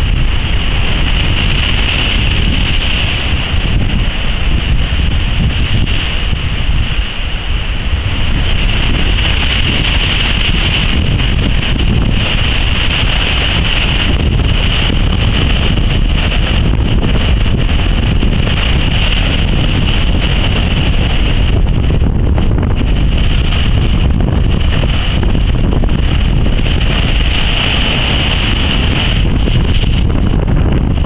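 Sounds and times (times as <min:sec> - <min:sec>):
strong wind on microphone: 0:00.0 - 0:31.0
surf breaking on breakwater: 0:00.0 - 0:31.0.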